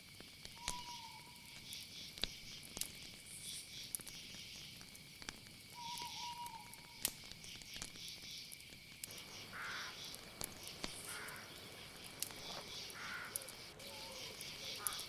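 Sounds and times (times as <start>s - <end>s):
insect chorus trilling: 0.0s - 15.0s
pulsing insect chirring: 0.1s - 15.0s.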